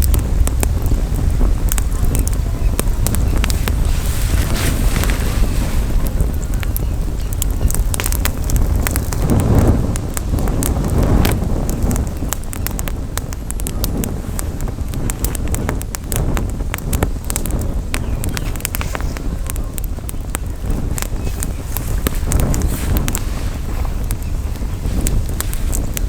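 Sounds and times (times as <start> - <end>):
campfire crackling and popping: 0.0 - 26.0
wind rumble on microphone: 0.0 - 26.0.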